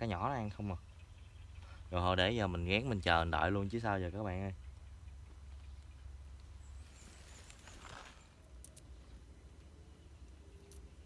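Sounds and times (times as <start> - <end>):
faint low rumble: 0.0 - 11.0.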